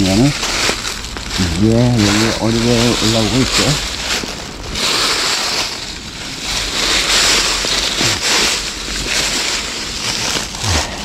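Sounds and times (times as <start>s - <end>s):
dry leaves rustling: 0.0s - 11.0s.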